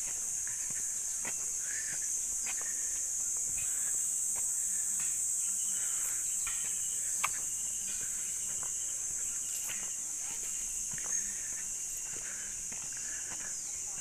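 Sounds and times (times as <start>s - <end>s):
footsteps on concrete: 0.0s - 14.0s
high-pitched insect chorus: 0.0s - 14.0s.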